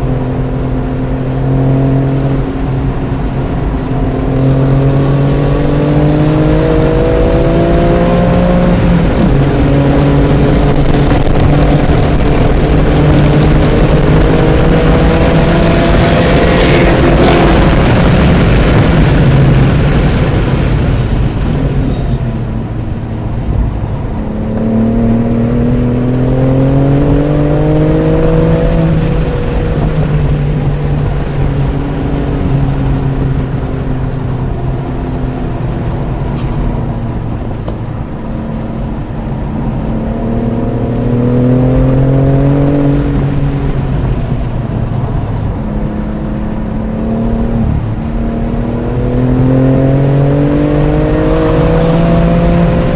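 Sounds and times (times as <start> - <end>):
car engine accelerating hard: 0.0 - 52.9
wind and tyre noise: 0.0 - 52.9.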